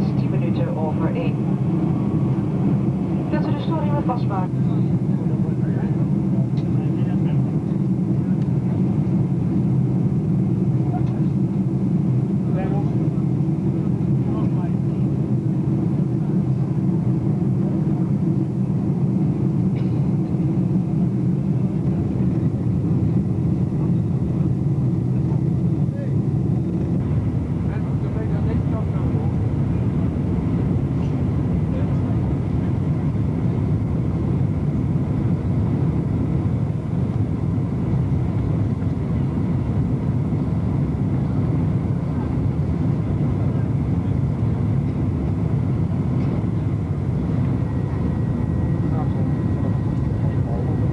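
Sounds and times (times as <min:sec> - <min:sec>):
airplane cabin engine rumble: 0:00.0 - 0:50.9.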